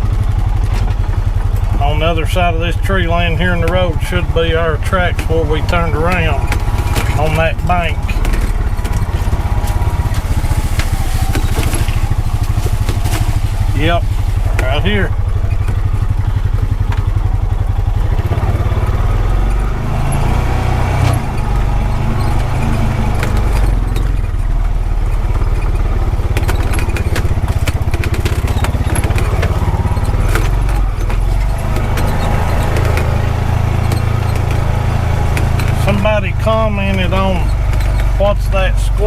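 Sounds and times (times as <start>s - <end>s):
body clicks and rattles: 0.0s - 39.0s
utility vehicle engine running: 0.0s - 39.0s.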